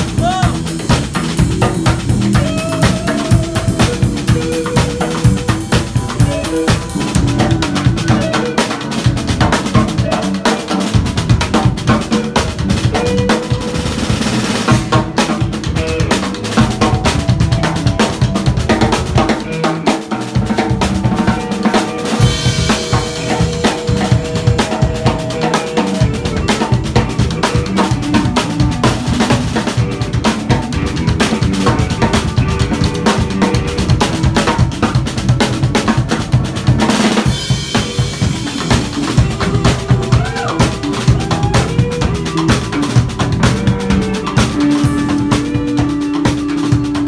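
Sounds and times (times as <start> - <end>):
drum duet: 0.0 - 47.0.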